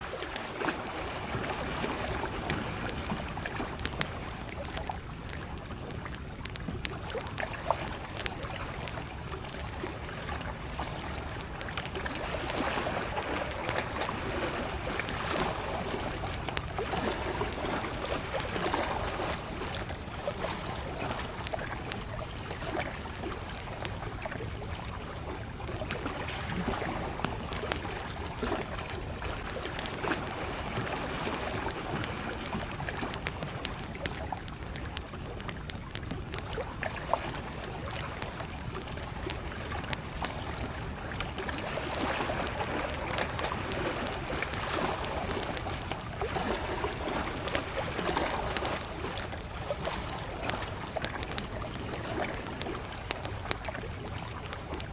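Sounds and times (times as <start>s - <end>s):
lake waves lapping at shore: 0.0s - 54.9s
campfire crackling and popping: 0.1s - 54.9s.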